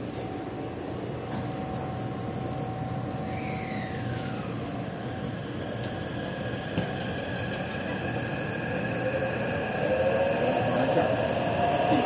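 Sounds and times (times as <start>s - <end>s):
train rumbling: 0.0s - 12.0s
train motor whine: 1.3s - 12.0s.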